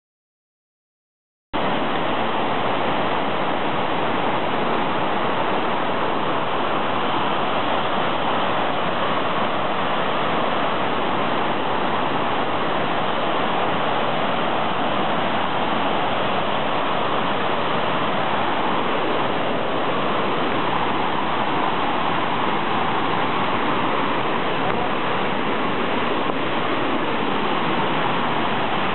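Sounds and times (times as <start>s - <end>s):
waterfall roaring: 1.6s - 28.9s.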